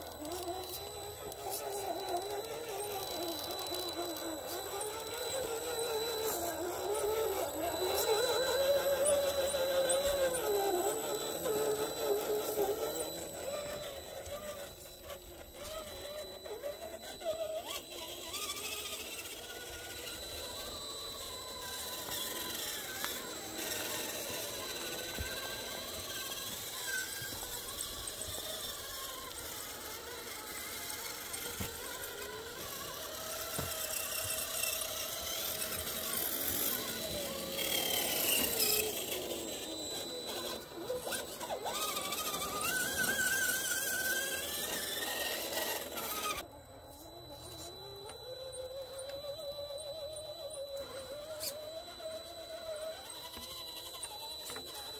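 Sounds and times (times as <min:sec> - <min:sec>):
thin steady high tone: 0:00.0 - 0:54.9
toy truck electric motors whining: 0:00.0 - 0:54.9.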